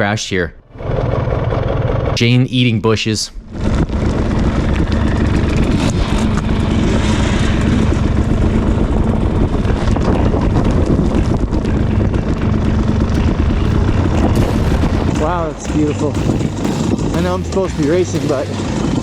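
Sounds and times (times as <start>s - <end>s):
bike rattling: 0.7s - 2.4s, 3.4s - 19.0s
dirt bike engine running: 0.7s - 2.4s, 3.4s - 19.0s.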